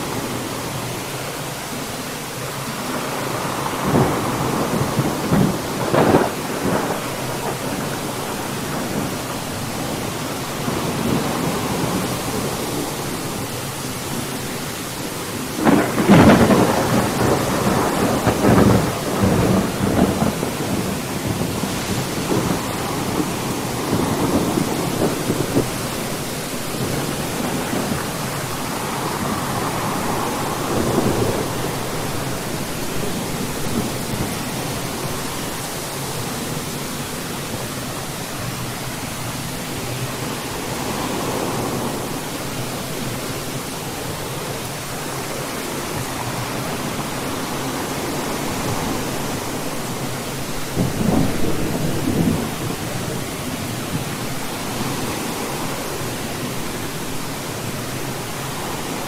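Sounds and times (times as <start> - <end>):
steady rain hissing: 0.0 - 59.0
thunder rumbling: 3.0 - 43.3, 46.1 - 56.0.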